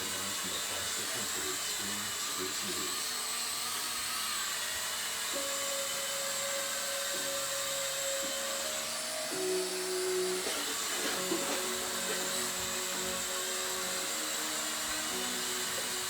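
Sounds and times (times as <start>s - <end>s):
toy helicopter rotors whirring: 0.0s - 16.0s.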